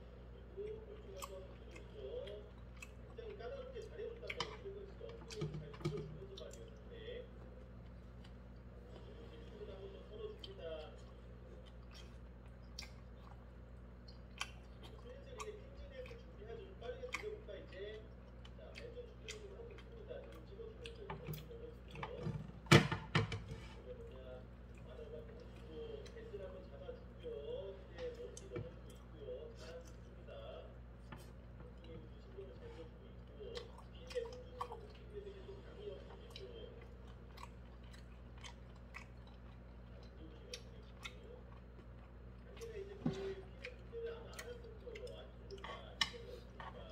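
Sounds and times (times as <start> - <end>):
person chewing wet smacks: 0.0 - 22.3, 23.7 - 46.9
faint television: 0.0 - 46.9.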